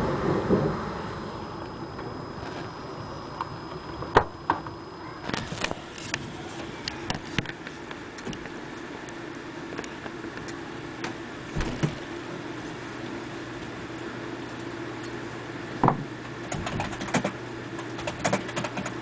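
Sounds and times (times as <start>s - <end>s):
rain hissing: 0.0s - 16.4s.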